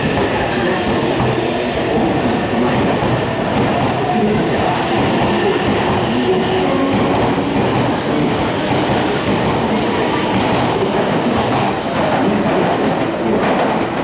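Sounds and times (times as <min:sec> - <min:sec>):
electric train rolling past: 0:00.0 - 0:14.0.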